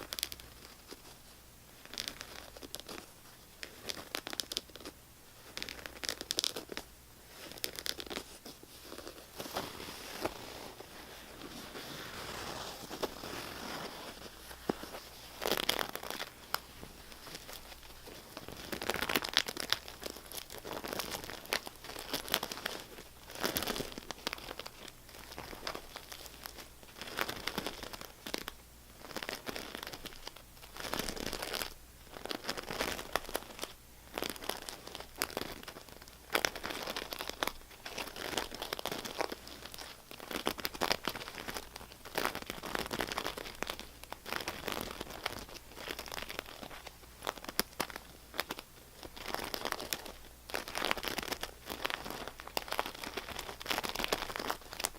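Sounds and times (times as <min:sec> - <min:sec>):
scratching crinkly material: 0:00.0 - 0:54.9.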